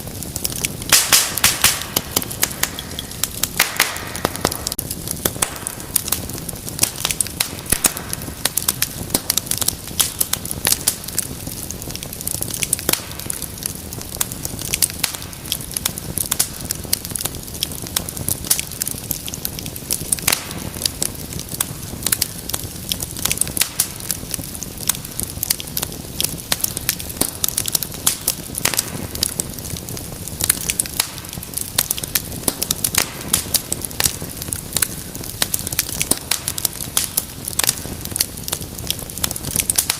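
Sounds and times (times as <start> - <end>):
low rush of flame: 0.0 - 39.9
wood fire crackling: 0.0 - 39.9.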